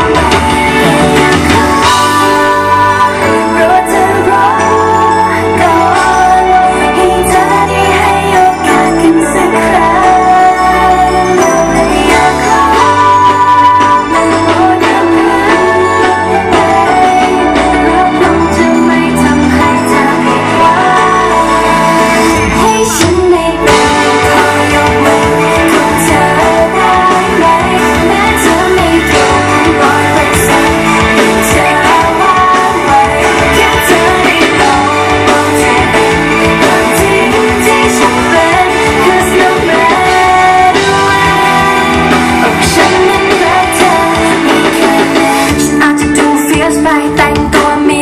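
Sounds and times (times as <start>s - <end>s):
live pop band: 0.0s - 48.0s
person singing: 0.0s - 48.0s.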